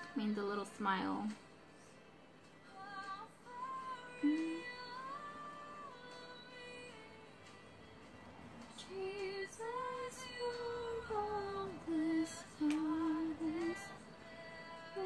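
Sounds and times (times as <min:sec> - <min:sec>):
woman singing with music: 0:00.0 - 0:15.0.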